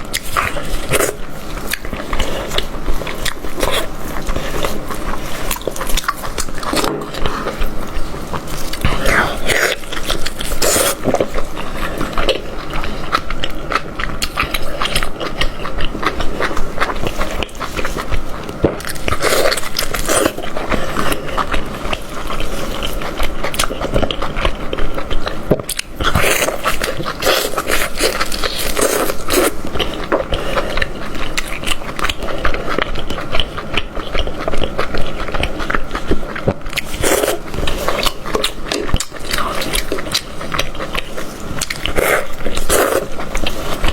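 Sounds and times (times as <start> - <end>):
person chewing meat: 0.0 - 43.9.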